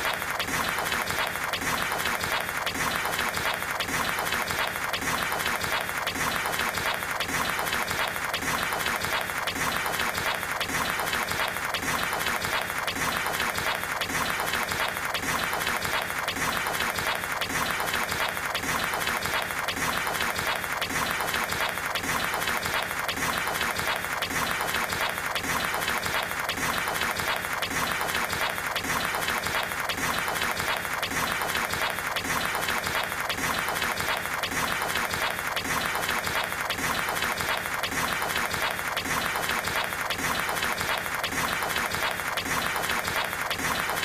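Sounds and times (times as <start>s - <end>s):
table tennis rally clatter: 0.0s - 44.0s.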